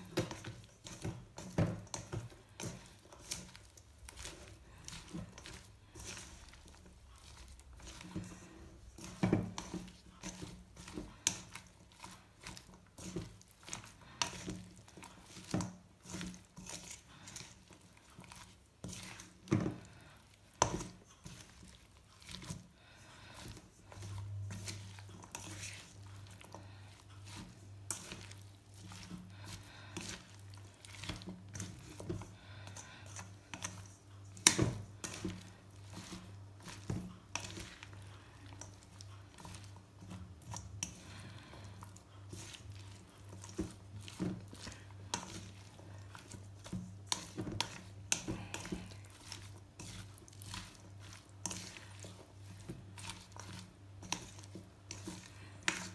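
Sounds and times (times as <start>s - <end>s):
spoon stirring wet batter: 0.0s - 55.9s.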